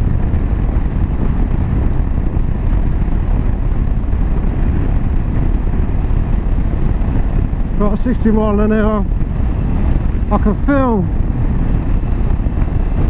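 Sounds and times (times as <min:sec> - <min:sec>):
motorcycle engine cruising: 0:00.0 - 0:13.0
wind rumble: 0:00.0 - 0:13.0.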